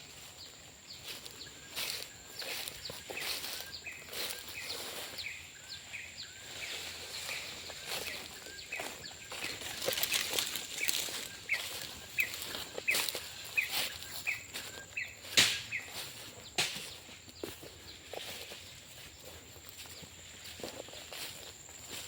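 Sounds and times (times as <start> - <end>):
footsteps in dry undergrowth: 0.0 - 22.0.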